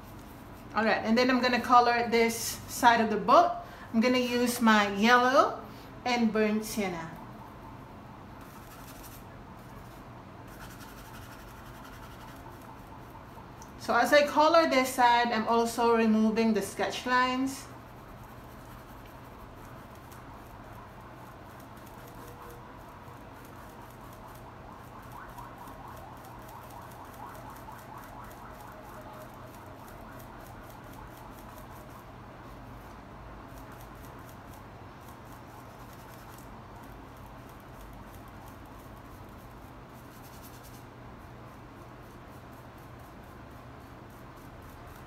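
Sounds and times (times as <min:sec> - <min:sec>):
paintbrush scratching on canvas: 0:00.0 - 0:03.3, 0:08.4 - 0:45.0.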